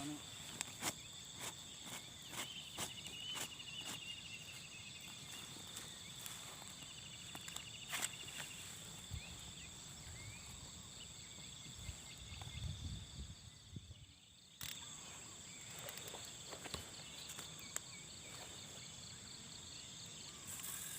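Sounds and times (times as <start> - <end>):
insects chirring: 0.0 - 20.9.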